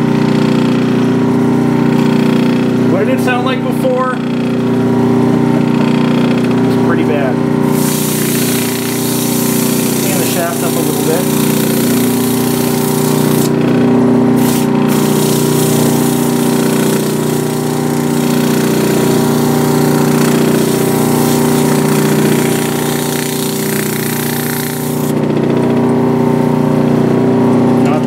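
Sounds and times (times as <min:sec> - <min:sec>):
drill press motor humming: 0:00.0 - 0:27.9.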